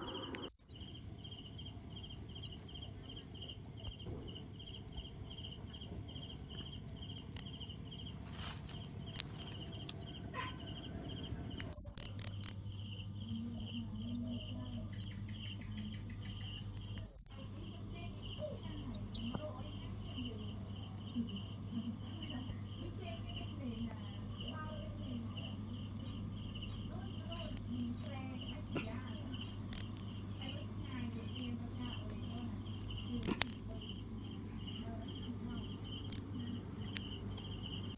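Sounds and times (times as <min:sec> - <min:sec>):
cricket chirping: 0:00.0 - 0:37.9.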